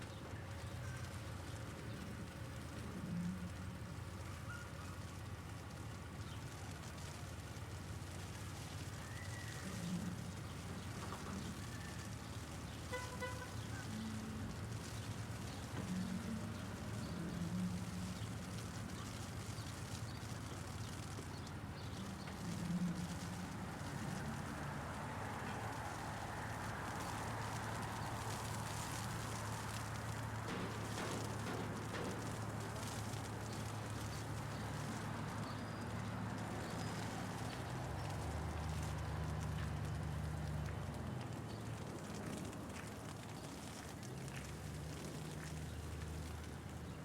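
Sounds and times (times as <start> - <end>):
city traffic hum: 0.0 - 47.0
hail pattering: 0.2 - 47.0.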